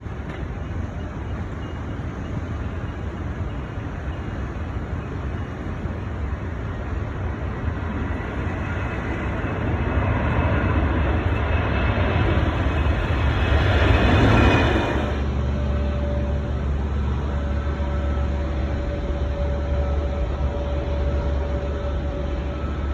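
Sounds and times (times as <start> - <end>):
faint high whine: 0.0 - 22.9
jet airliner engine rumble: 0.0 - 22.9.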